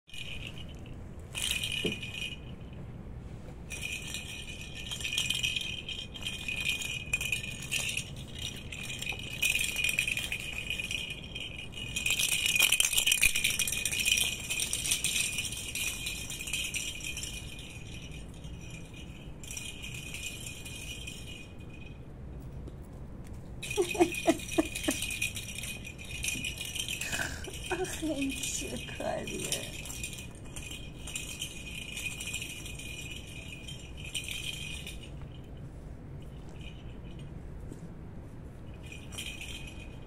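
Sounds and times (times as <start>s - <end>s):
bell ball jingling and rattling: 0.0s - 3.0s, 3.6s - 22.7s, 23.4s - 40.0s.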